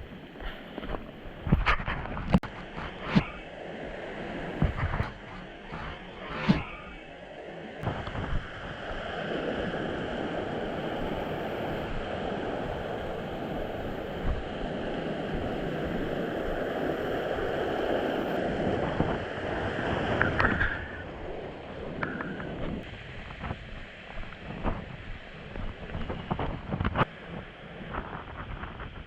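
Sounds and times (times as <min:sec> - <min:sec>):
wind buffeting microphone: 0:00.0 - 0:07.1, 0:07.8 - 0:29.0
strong wind rushing: 0:00.7 - 0:07.2, 0:07.8 - 0:27.1.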